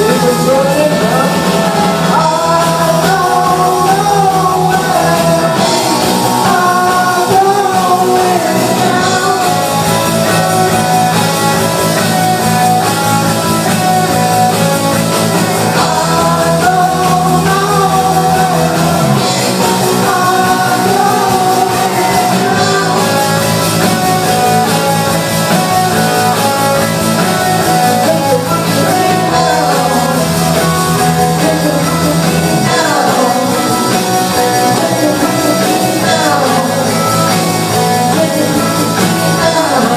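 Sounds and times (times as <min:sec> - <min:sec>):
bass line: 0:00.0 - 0:39.9
live rock band playing: 0:00.0 - 0:39.9
person singing: 0:00.0 - 0:39.9.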